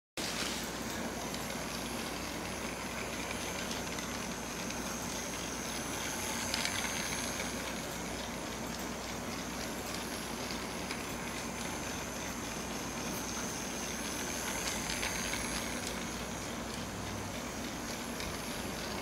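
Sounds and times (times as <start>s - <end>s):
toy train motor whirring: 0.2s - 19.0s.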